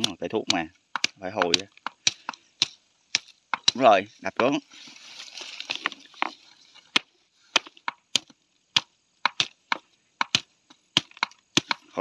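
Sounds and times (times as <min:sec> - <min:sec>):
plant stems being beaten: 0:00.0 - 0:04.6, 0:05.6 - 0:12.0.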